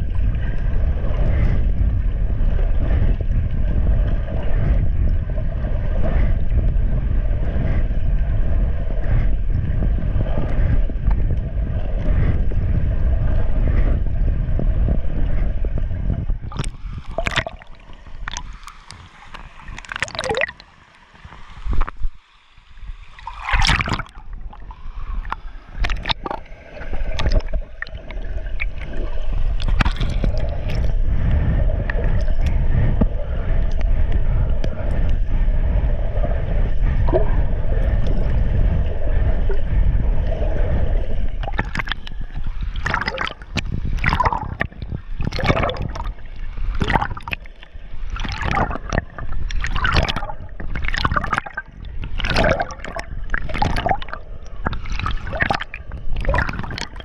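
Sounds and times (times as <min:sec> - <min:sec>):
muffled underwater rumble: 0:00.0 - 0:57.0.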